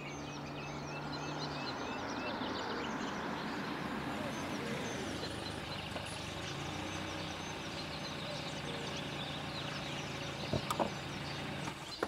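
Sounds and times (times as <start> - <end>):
birds chirping: 0.0 - 12.0
car engine running slowly: 0.0 - 12.0.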